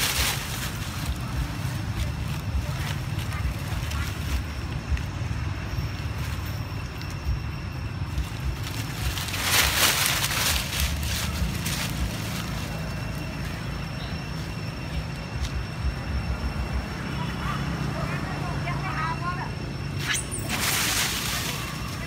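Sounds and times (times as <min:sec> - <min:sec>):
rustling hiss: 0:00.0 - 0:16.1, 0:19.9 - 0:22.0.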